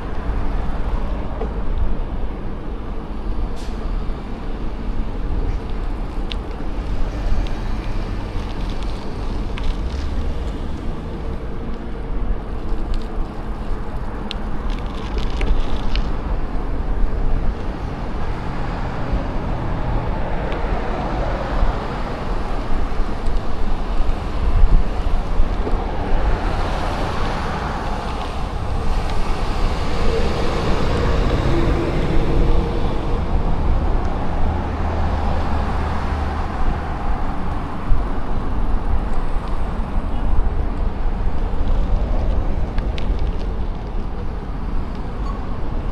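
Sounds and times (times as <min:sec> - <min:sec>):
steady traffic noise: 0:00.0 - 0:45.9
vehicle tyre noise passing: 0:00.0 - 0:45.9
wind rumbling on microphone: 0:00.0 - 0:45.9.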